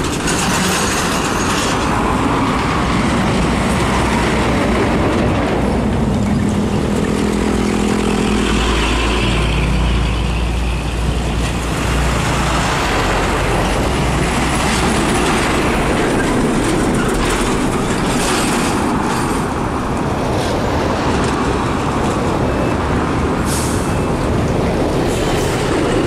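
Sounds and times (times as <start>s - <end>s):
heavy trucks passing: 0.0s - 26.0s.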